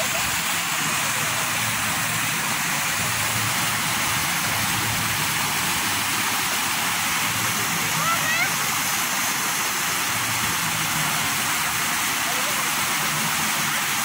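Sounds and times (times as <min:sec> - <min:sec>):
fountain jets splashing: 0:00.0 - 0:14.0.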